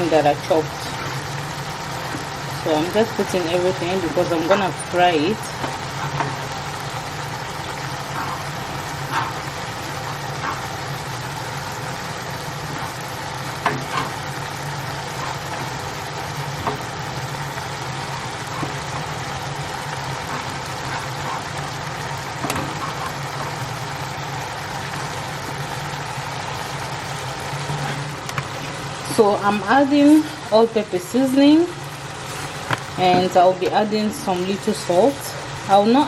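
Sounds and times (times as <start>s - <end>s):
food sizzling in oil: 0.0s - 36.0s.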